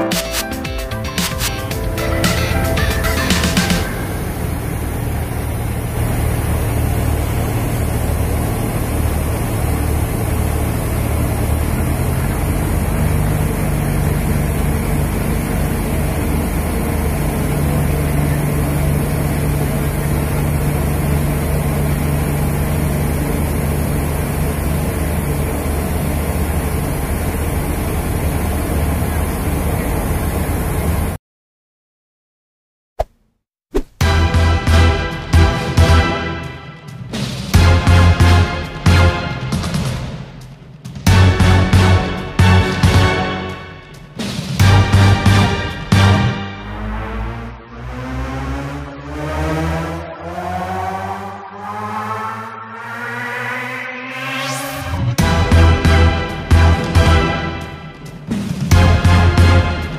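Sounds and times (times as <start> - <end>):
ship engine drone: 0.9 - 31.2, 34.0 - 59.9.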